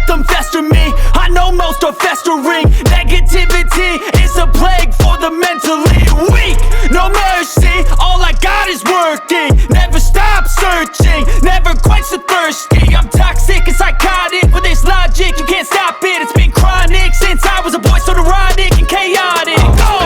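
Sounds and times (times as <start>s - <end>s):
hip hop with heavy bass: 0.0s - 20.0s.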